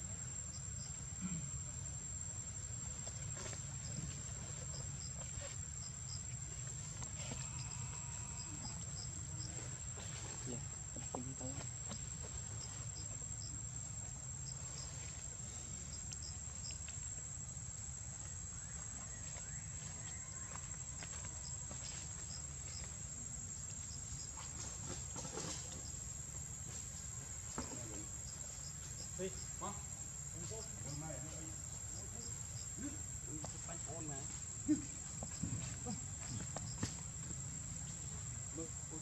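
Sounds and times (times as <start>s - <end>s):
insects high-pitched drone: 0.0s - 9.7s, 10.3s - 39.0s
insect chirps: 0.0s - 39.0s.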